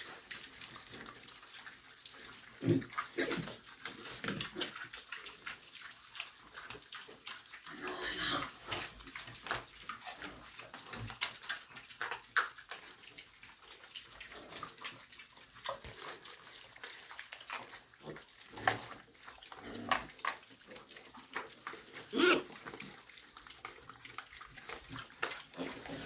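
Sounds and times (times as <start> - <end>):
pigs chomping and slurping feed: 0.0 - 26.0.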